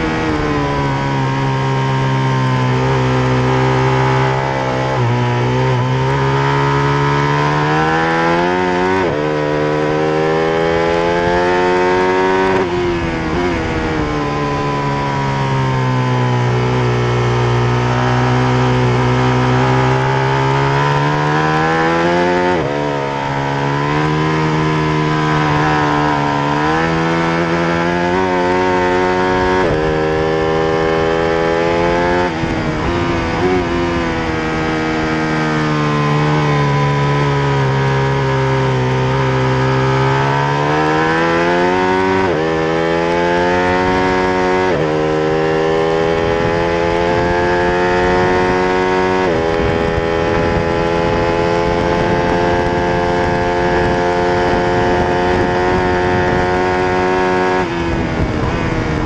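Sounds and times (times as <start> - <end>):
motorcycle engine at racing speed: 0.0 - 59.0
wind and road noise: 0.0 - 59.0.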